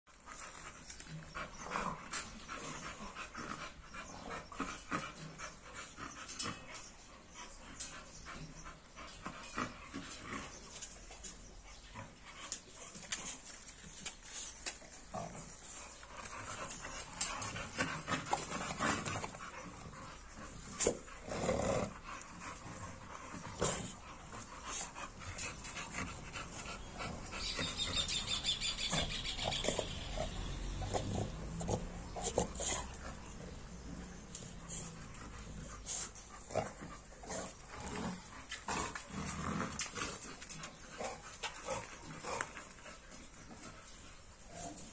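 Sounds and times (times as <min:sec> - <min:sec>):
dog panting and snuffling: 0:00.1 - 0:44.9.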